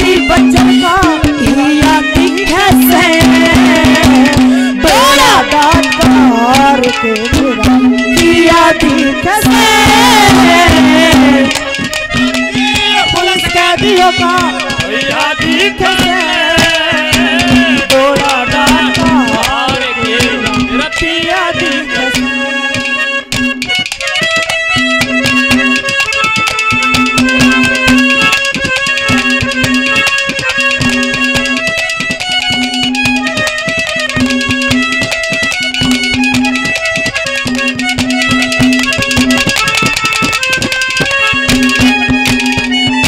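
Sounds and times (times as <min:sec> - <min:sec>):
hand drums fast rhythm: 0:00.0 - 0:43.0
held-note melody: 0:00.0 - 0:43.0.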